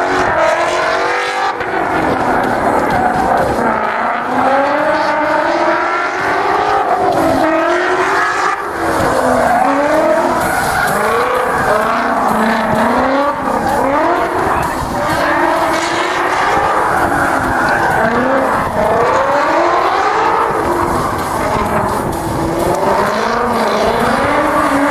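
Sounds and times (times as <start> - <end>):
car engine revving: 0.0 - 24.9
tyres skidding and squealing: 0.0 - 24.9.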